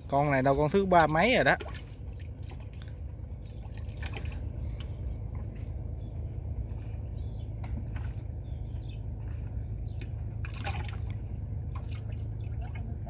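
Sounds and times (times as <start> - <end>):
steady low hum: 0.0 - 13.0
water trickling and dripping: 0.0 - 13.0.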